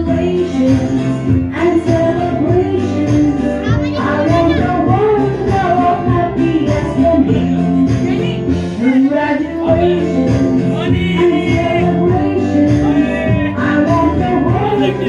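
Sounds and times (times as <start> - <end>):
song over a speaker: 0.0 - 15.0.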